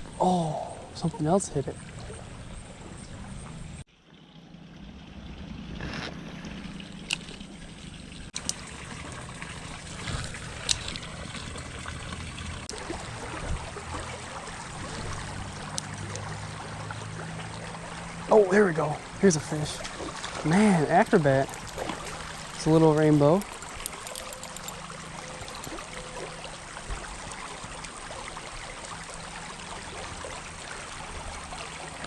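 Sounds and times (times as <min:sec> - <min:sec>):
creek water running and trickling: 0:00.0 - 0:32.0.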